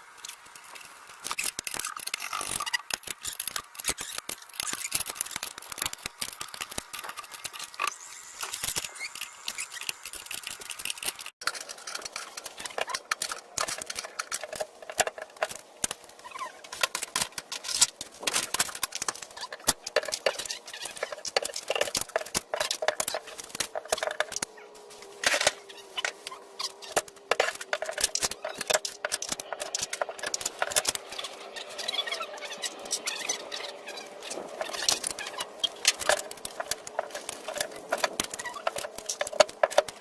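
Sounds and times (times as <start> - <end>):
handling noise clicking and crackling: 0.0 - 40.0.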